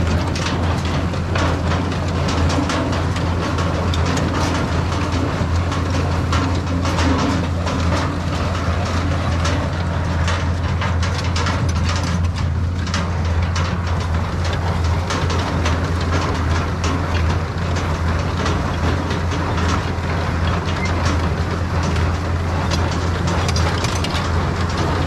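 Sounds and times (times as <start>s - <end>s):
baler clattering and rattling: 0.0s - 25.0s
tractor engine drone: 0.0s - 25.0s.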